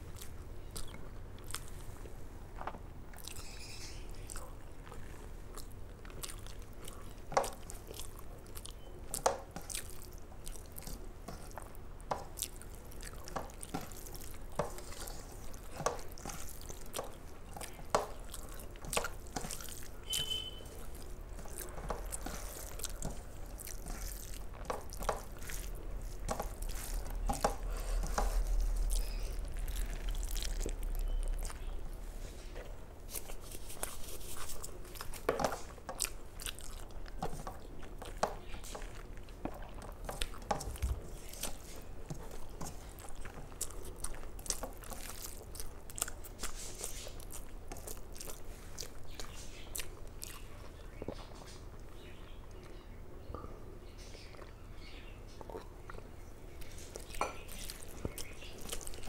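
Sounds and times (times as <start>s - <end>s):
person chewing: 0.0s - 2.2s, 3.1s - 53.6s, 55.3s - 59.0s.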